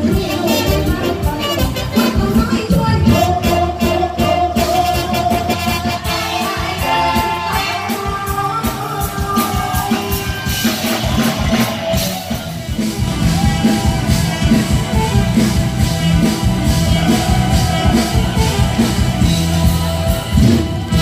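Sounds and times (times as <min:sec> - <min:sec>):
bass line: 0:00.0 - 0:21.0
drum kit beat: 0:00.0 - 0:21.0
live band music: 0:00.0 - 0:21.0.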